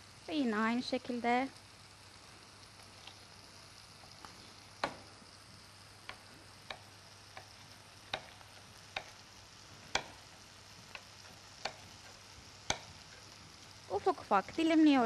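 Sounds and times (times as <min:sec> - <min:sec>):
vegetables sizzling in pan: 0:00.0 - 0:15.0.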